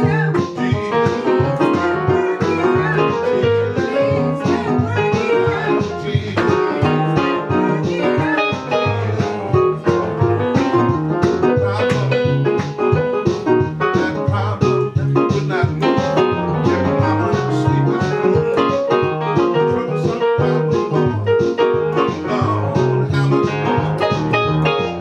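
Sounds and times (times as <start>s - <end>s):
instrumental guitar music with beat: 0.0s - 25.0s.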